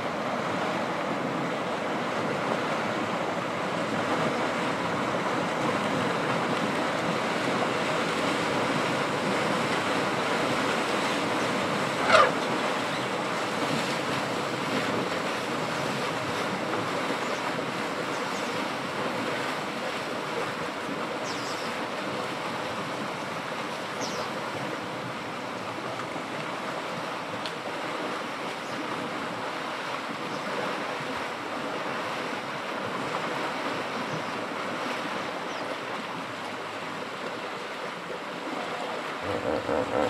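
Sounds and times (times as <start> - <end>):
elephants splashing through river water: 0.0 - 40.0.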